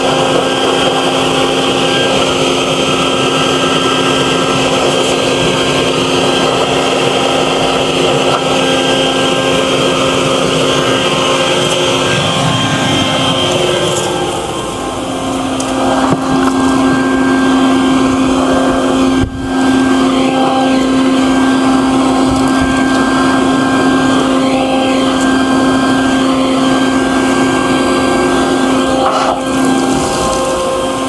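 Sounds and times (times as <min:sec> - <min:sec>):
shop vacuum blowing air: 0:00.0 - 0:31.0.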